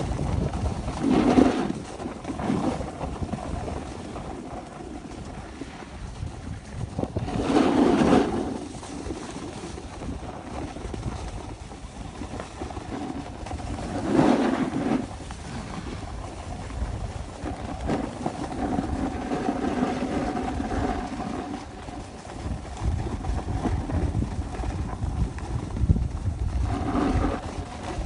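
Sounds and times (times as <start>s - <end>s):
snowboard scraping on snow: 0.0s - 28.0s
wind buffeting microphone: 0.0s - 28.0s.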